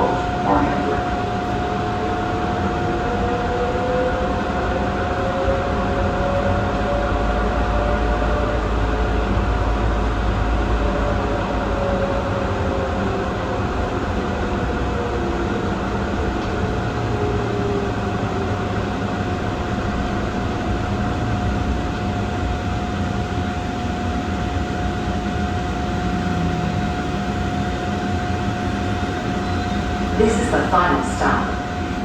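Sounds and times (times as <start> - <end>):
tram running rumble: 0.0 - 32.0.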